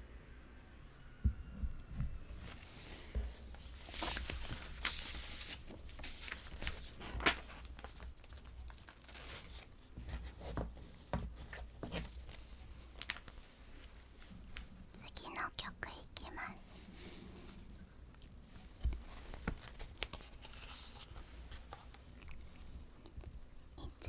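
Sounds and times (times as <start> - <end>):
hands rustling and crinkling: 2.1 - 15.0, 16.6 - 23.4.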